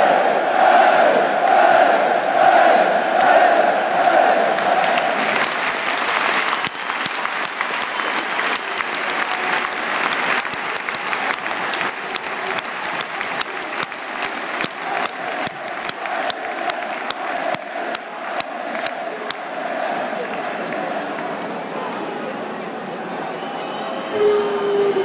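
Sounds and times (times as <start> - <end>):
crowd chanting: 0.0 - 22.2
stadium crowd clapping: 0.0 - 22.8.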